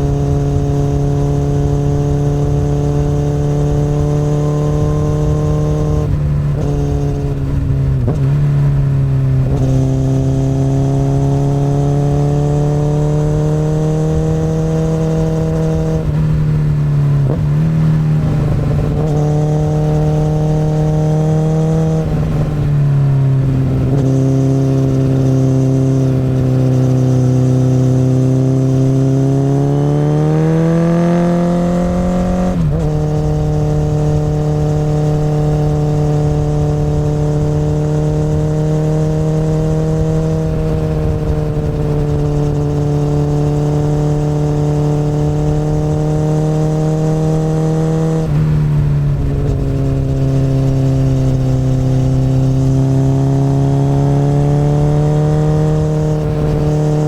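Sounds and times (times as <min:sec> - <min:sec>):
motorcycle exhaust at cruising throttle: 0:00.0 - 0:57.0.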